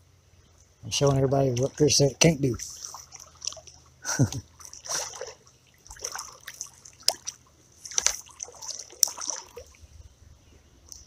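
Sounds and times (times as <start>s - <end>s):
creek water splashing: 0.8s - 11.0s.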